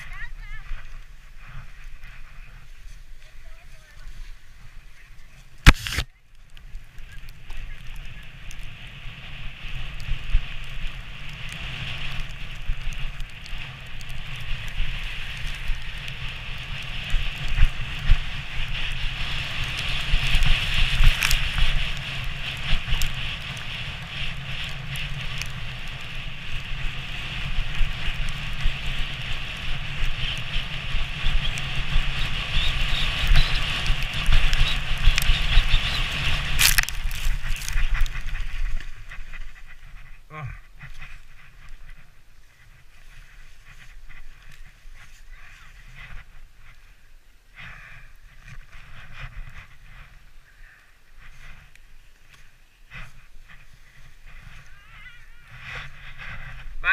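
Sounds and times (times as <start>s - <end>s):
sledge runners scraping on snow: 0.0s - 6.0s, 6.7s - 47.0s, 47.6s - 50.4s, 51.0s - 56.8s
snow ticks and crackles: 0.0s - 56.9s.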